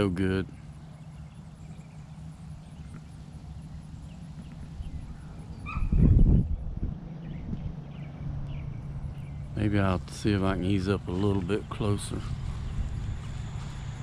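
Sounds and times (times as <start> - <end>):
loud low rumble: 0.0 - 14.0
steady low hum: 0.0 - 14.0.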